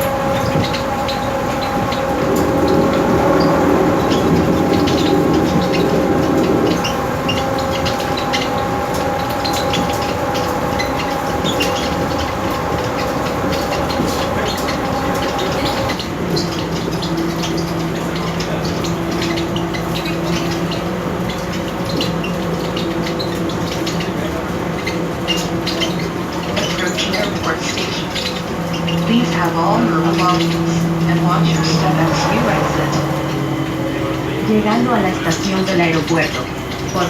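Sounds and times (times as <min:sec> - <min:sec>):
train motor whine: 0:00.0 - 0:37.0.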